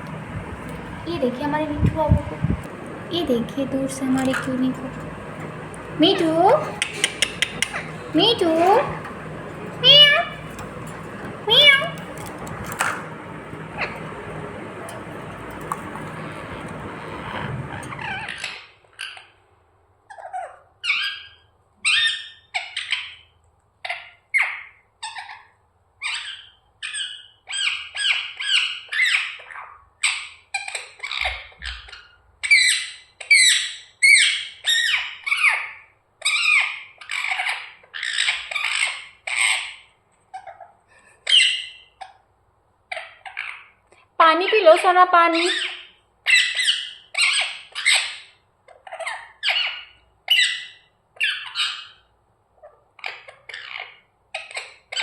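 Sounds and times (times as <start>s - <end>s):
parrot chirping and squawking: 4.8s - 19.3s, 20.1s - 42.2s, 42.9s - 43.8s, 44.4s - 55.0s.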